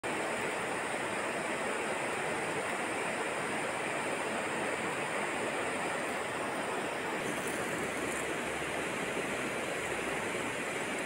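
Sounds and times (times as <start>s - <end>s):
steady rushing hiss: 0.0s - 11.0s.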